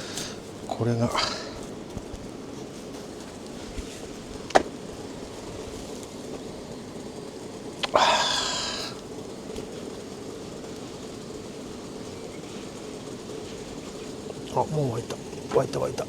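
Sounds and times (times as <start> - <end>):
gas burner burning: 0.0 - 16.0
water heating to boil: 0.0 - 16.0.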